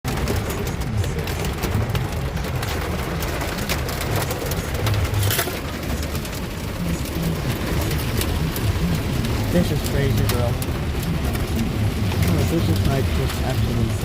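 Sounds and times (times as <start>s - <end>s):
car rumbling on road: 0.0s - 14.0s
hard rain pelting a car: 0.0s - 14.0s.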